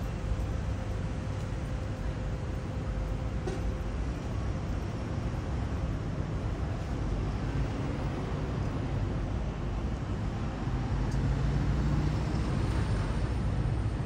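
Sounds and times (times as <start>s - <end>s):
low engine hum: 0.0s - 14.0s
road traffic rumble: 0.0s - 14.0s.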